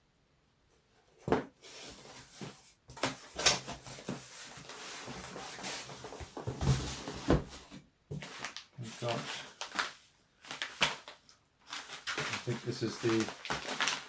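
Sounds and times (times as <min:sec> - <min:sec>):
packaging rustling: 0:01.7 - 0:14.0.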